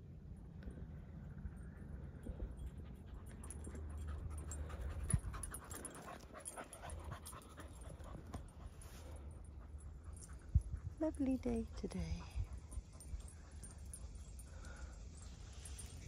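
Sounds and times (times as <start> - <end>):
steady low rumble: 0.0 - 16.0
rapid panting breaths: 0.9 - 16.0.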